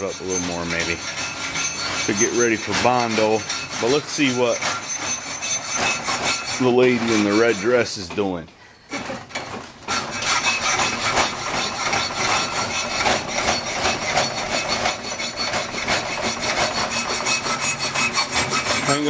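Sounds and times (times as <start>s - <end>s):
hand file rasping: 0.0s - 8.1s, 8.9s - 19.0s.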